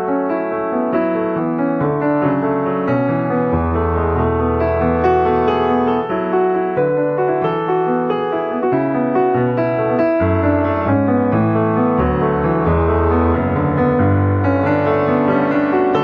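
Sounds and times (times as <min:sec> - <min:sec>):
instrumental piano music: 0:00.0 - 0:16.0.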